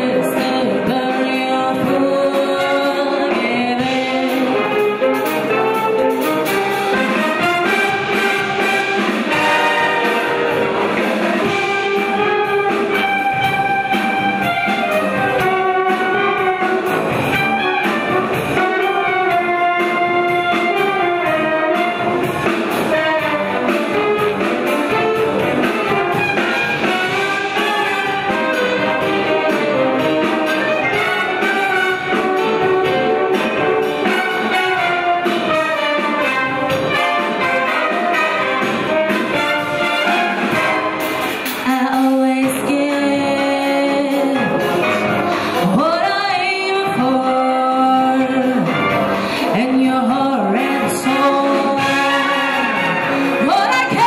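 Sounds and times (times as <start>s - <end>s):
wind band playing: 0.0s - 54.0s.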